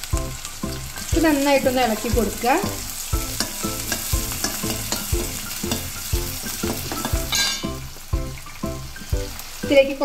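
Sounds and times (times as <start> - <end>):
regular low beat: 0.0 - 9.8
onions sizzling in hot oil: 0.0 - 10.0.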